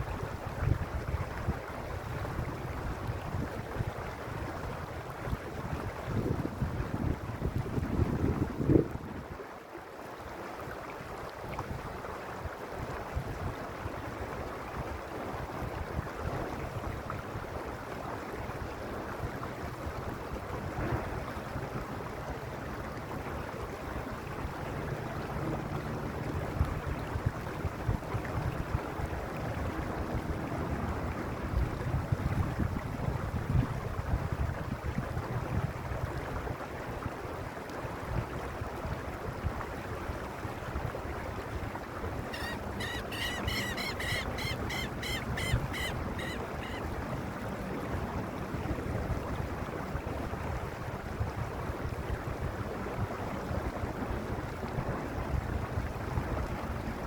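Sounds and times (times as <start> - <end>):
stream water rushing: 0.0 - 34.0, 34.8 - 57.0.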